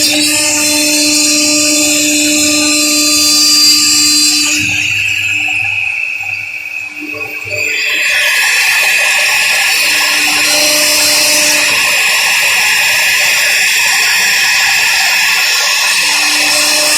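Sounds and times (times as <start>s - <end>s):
router spindle cutting wood: 0.0s - 16.9s.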